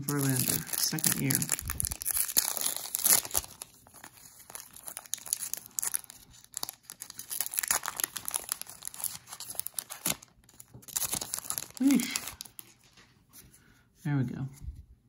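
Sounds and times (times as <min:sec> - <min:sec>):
foil wrapper crinkling and tearing: 0:00.0 - 0:12.9.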